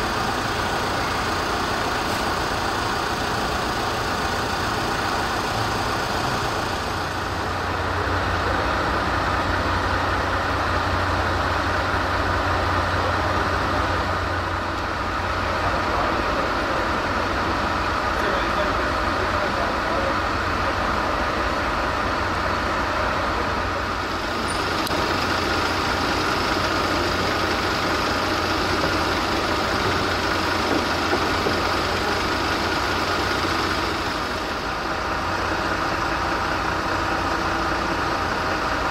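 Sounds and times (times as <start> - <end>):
vehicle engines idling: 0.0 - 38.9.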